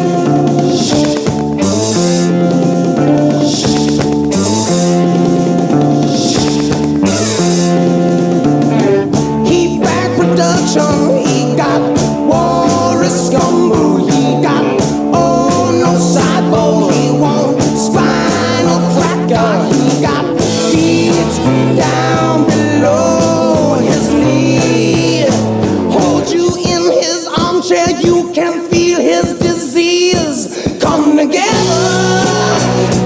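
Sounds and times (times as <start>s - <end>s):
bass line: 0.0s - 28.3s, 30.9s - 33.0s
drums: 0.0s - 33.0s
rock song with singing: 0.0s - 33.0s.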